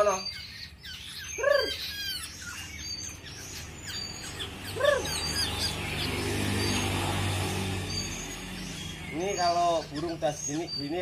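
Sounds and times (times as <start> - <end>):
arched bird calls: 0.0 - 11.0
birds chirping: 0.0 - 11.0.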